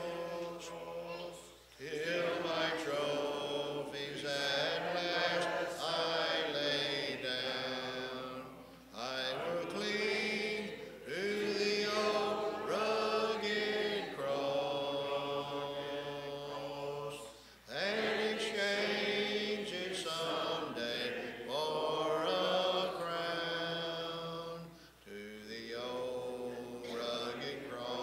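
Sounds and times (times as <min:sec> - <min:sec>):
congregation singing a hymn: 0:00.0 - 0:28.0.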